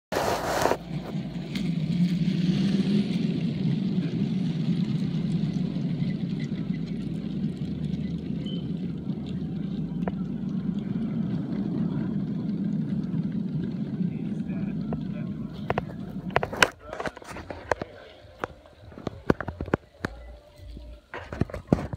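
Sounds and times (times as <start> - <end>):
toy train wheels rumbling on rails: 0.2 - 21.9.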